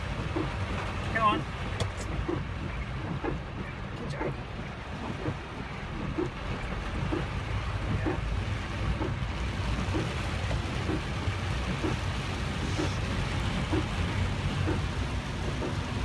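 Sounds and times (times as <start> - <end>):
car low rumble: 0.0 - 16.0
heavy rain on a car: 0.0 - 16.0.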